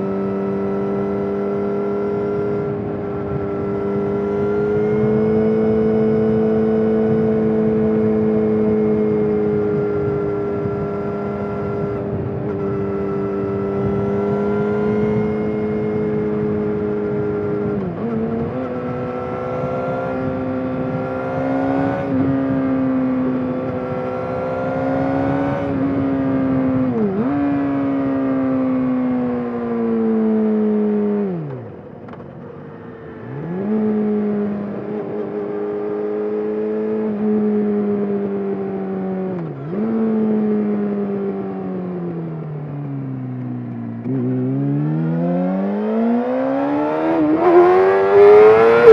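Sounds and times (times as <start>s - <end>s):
motorcycle engine revving: 0.0s - 32.2s, 33.2s - 48.9s.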